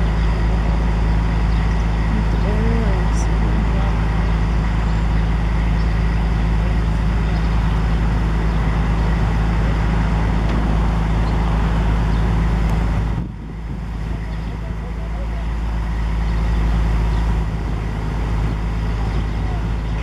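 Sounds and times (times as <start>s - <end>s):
large engine rumbling: 0.0s - 20.0s.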